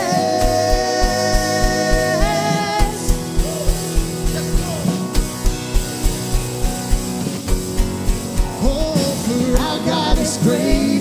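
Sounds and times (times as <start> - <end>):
kick drum beat: 0.0 - 9.0
acoustic guitar and keyboard chords: 0.0 - 11.0.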